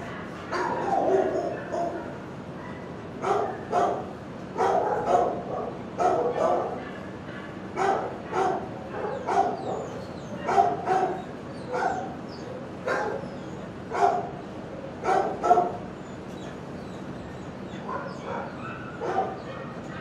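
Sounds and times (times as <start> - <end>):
dogs barking: 0.0 - 20.0.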